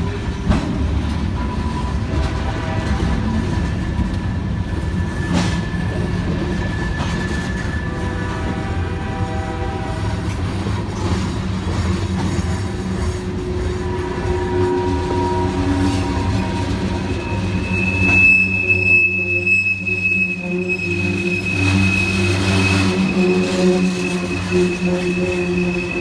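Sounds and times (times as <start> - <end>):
train wheels rumbling on rails: 0.0 - 26.0
high wheel squeal: 2.8 - 26.0.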